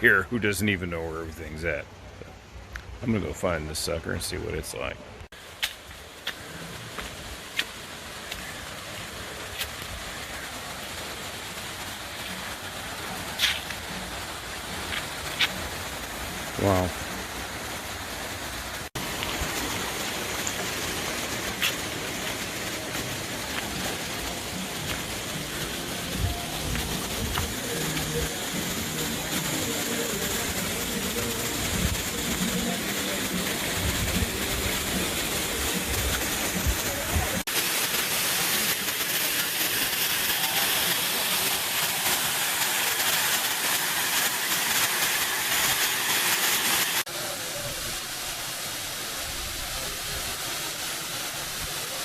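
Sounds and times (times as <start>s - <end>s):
waterfall rushing: 5.3s - 52.0s.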